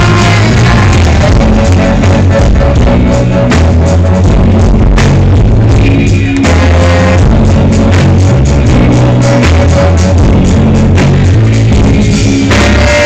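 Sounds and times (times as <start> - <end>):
distorted live reggae band: 0.0 - 13.0.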